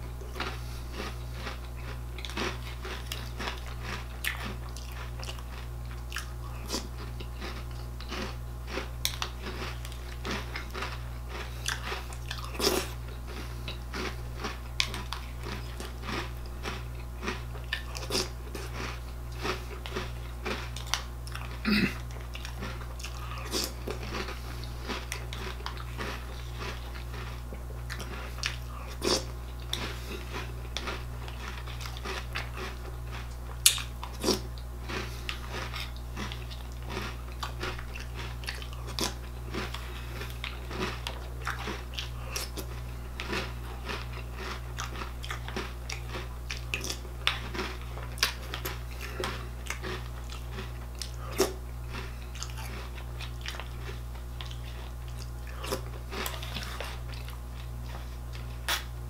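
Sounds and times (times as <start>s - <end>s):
person crunching cereal: 0.0s - 59.0s.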